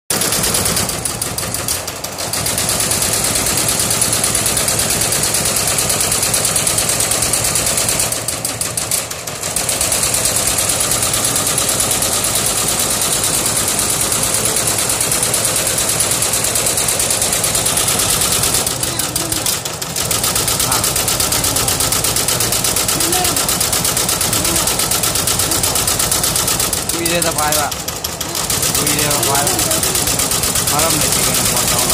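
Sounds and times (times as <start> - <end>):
embroidery machine needles clattering: 0.2 - 31.9.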